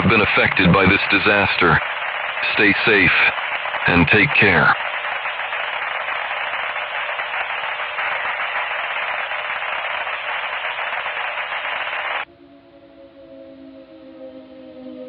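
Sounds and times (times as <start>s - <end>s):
steady static hiss: 0.0s - 12.2s.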